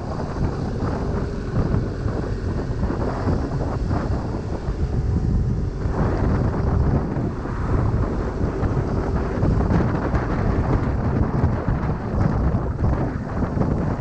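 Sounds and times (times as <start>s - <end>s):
road and engine noise: 0.0s - 14.0s
wind buffeting microphone: 0.0s - 14.0s.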